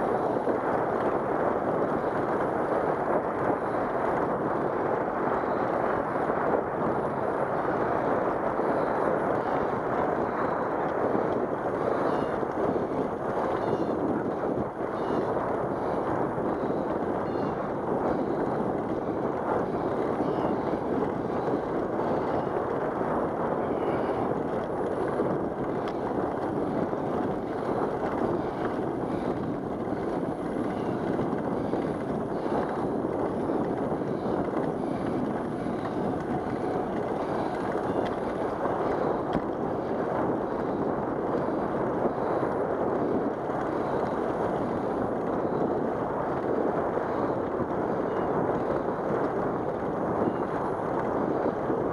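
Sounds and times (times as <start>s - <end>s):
wind rush over microphone: 0.0s - 51.9s.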